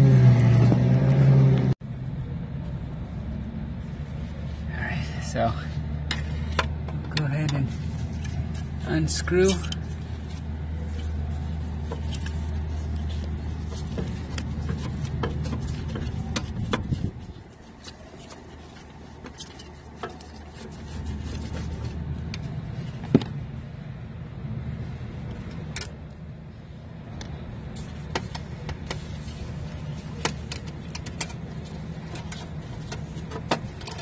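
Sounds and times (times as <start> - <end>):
low rumbling hum: 0.0 - 34.0.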